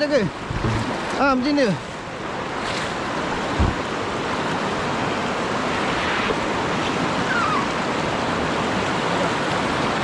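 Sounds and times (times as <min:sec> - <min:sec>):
river rapids rushing: 0:00.0 - 0:10.0.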